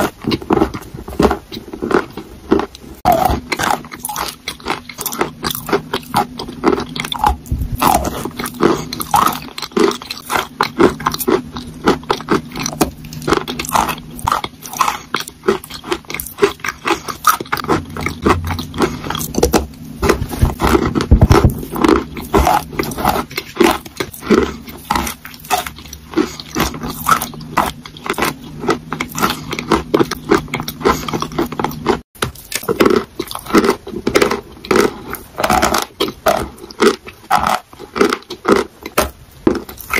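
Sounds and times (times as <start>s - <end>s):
chewing crunchy chalk: 0.0s - 39.9s
faint low hum: 0.0s - 39.9s.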